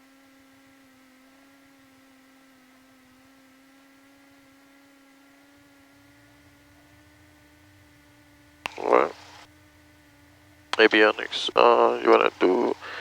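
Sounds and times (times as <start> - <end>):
faint cockpit intercom hum: 0.6 - 13.0.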